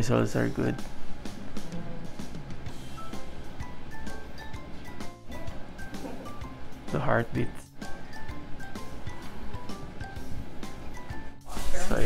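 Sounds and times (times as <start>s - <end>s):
light melody over soft beat: 0.4s - 11.6s.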